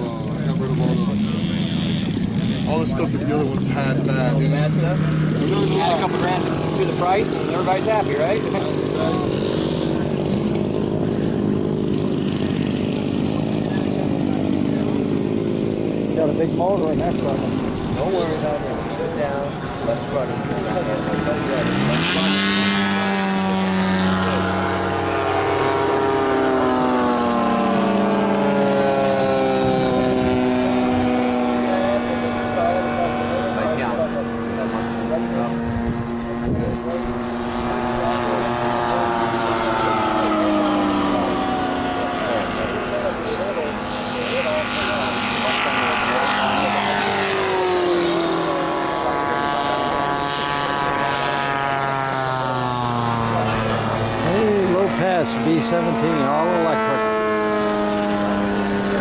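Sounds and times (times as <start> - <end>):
model airplane motor running: 0.0 - 59.0.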